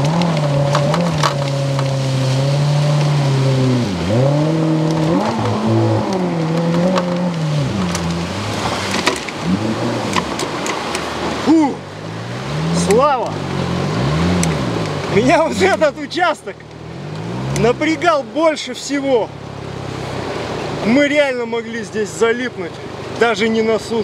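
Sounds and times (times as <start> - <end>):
outboard motor revving: 0.0 - 24.0
rushing water: 0.0 - 24.0.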